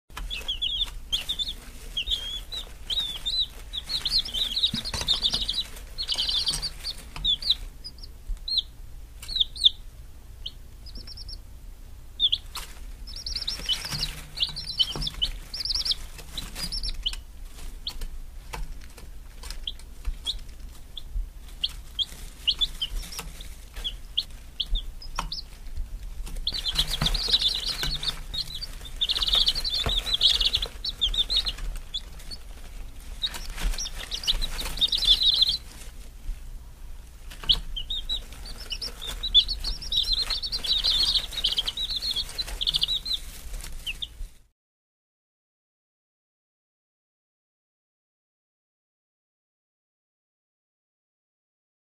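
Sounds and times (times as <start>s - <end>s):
chicks peeping: 0.1s - 44.5s.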